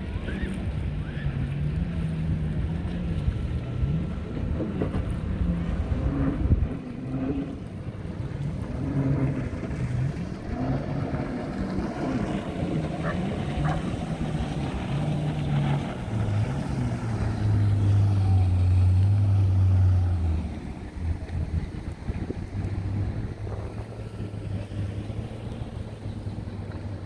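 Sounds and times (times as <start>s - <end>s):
powerboat engine running: 0.0s - 27.0s.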